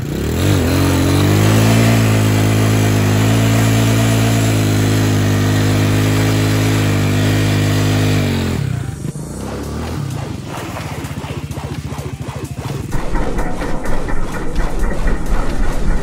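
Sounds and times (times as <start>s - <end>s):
motorcycle engine revving high: 0.0s - 16.0s.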